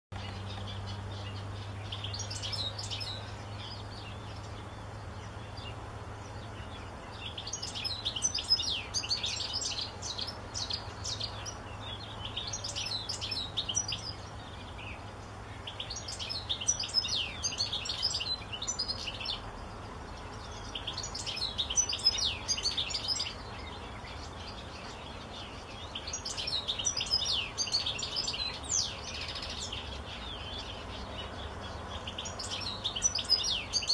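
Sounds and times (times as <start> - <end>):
goldfinch twittering song: 0.2 - 33.9.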